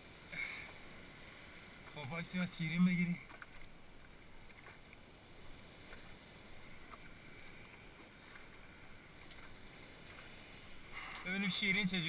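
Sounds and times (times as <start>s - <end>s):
sea water washing: 0.0s - 12.0s
soft water splashes: 0.0s - 12.0s.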